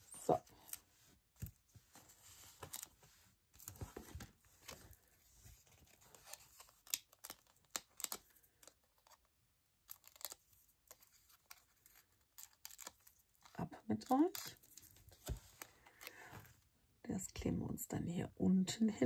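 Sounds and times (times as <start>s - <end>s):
paper rustling and crinkling: 0.4s - 9.3s, 9.9s - 16.5s.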